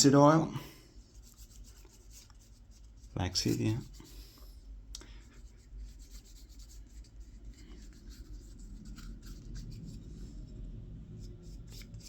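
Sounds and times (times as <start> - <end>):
hand rubbing wooden spoon: 0.0 - 12.0
steady low hum: 0.0 - 12.0.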